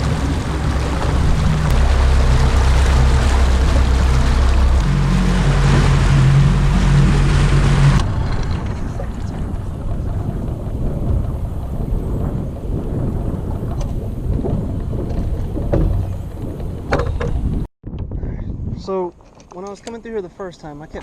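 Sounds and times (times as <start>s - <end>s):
boat motor running: 0.0s - 17.7s
water noise: 0.0s - 17.7s
wind rushing over microphone: 0.0s - 19.1s.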